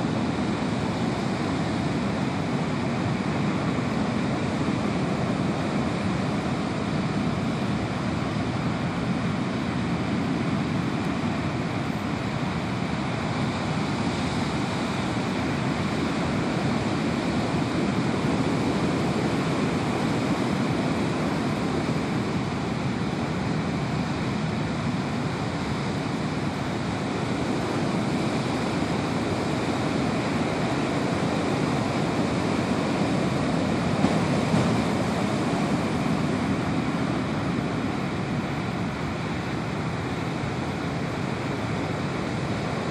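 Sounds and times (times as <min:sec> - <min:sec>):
ocean surf rushing: 0:00.0 - 0:42.9.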